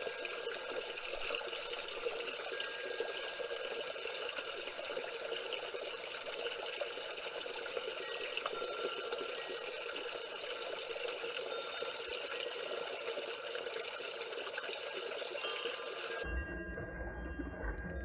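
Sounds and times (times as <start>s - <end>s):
small waterfall splashing over stones: 0.0s - 16.3s.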